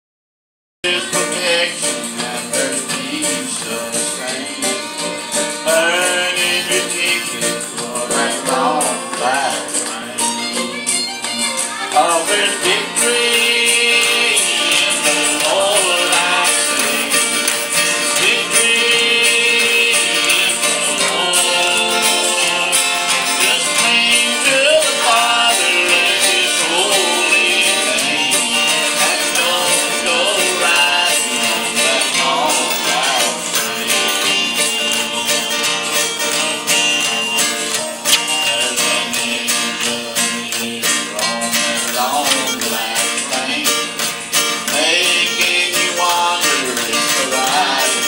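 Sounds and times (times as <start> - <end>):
man and boy singing: 0.8 - 11.1, 11.9 - 35.6, 36.6 - 44.0, 44.6 - 48.0
guitar accompaniment: 0.8 - 48.0.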